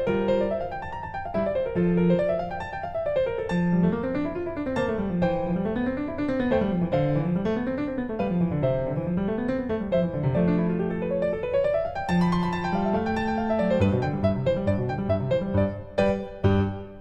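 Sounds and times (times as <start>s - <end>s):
piano arpeggios: 0.0s - 17.0s.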